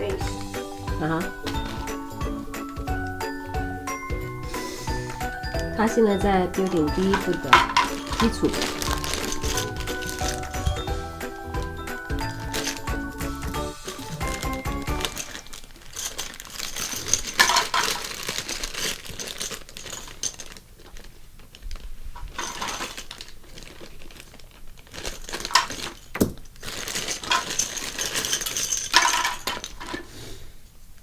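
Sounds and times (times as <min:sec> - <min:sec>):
toy building pieces rattling: 0:00.0 - 0:30.1
crinkling: 0:00.0 - 0:31.0.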